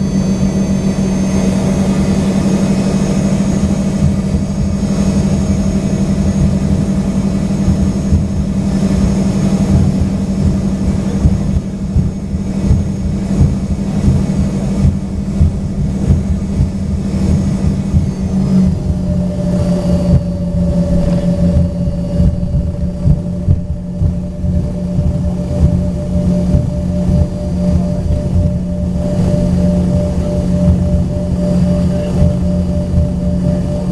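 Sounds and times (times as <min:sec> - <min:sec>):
aircraft cabin rumble and hum: 0:00.0 - 0:33.9.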